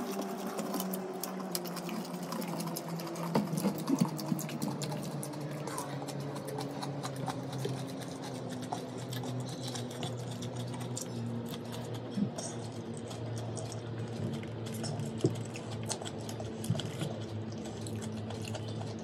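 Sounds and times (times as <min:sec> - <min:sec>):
chewing and lip-smacking: 0:00.0 - 0:19.0
steady low hum: 0:00.0 - 0:19.0.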